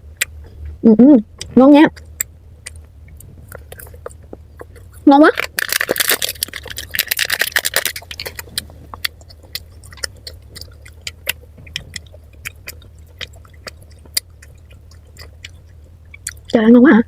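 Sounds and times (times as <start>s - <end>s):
steady low hum: 0.0s - 17.0s
close chewing: 1.4s - 16.6s
wet mouth clicks: 1.4s - 16.6s.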